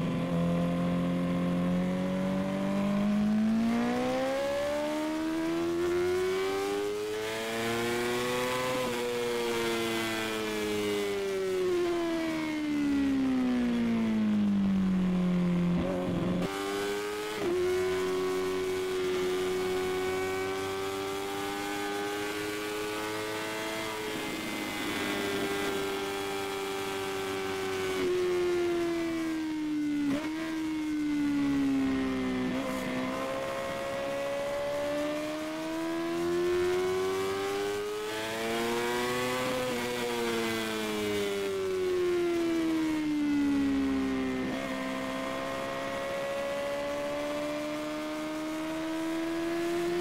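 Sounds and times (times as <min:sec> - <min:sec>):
motorcycle engine revving at speed: 0:00.0 - 0:50.0.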